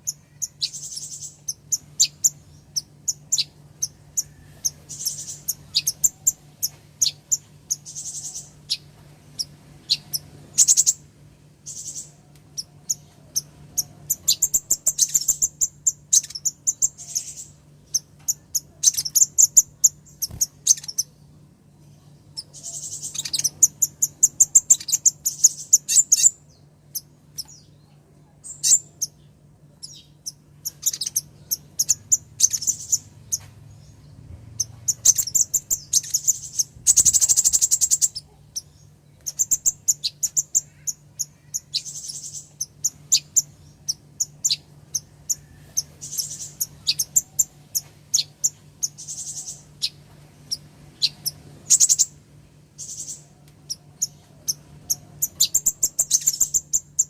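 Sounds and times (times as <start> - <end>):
bird buzzy trill: 0.0 - 21.2, 22.3 - 27.7, 28.4 - 57.0
bird chirping and twittering: 0.0 - 52.2, 52.8 - 57.0
faint low hum: 0.0 - 57.0.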